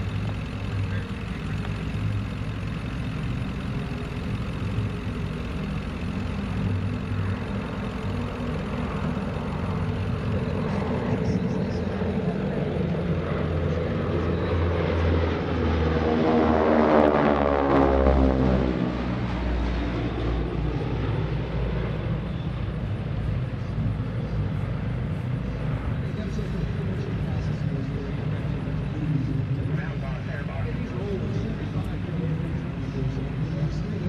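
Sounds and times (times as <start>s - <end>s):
propeller planes droning overhead: 0.0s - 34.0s.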